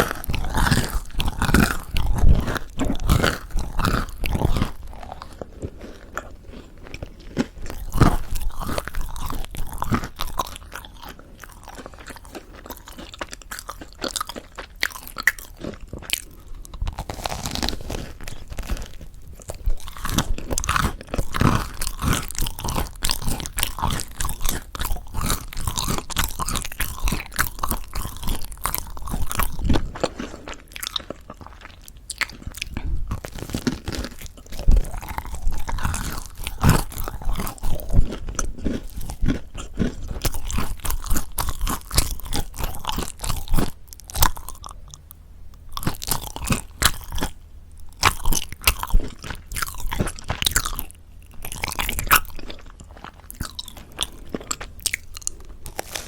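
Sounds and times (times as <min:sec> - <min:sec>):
crunching and chewing bread: 0:00.0 - 0:56.0.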